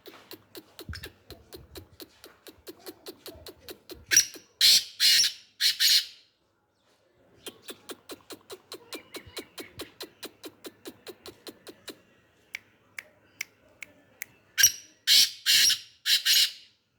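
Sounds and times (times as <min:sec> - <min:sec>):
harsh rasping bird calls: 0:00.0 - 0:06.2, 0:07.4 - 0:12.7, 0:14.6 - 0:16.8.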